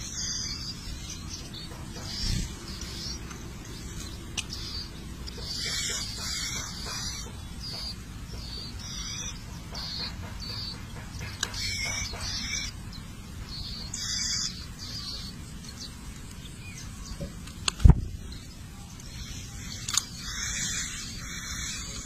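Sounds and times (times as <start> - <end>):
nestling birds chirping: 0.0 - 22.0.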